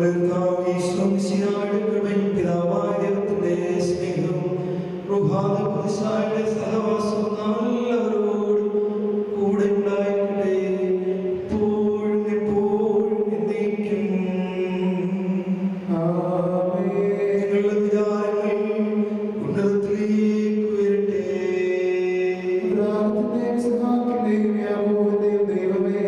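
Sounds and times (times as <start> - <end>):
liturgical chant singing: 0.0 - 26.0
steady sustained tone: 0.0 - 26.0.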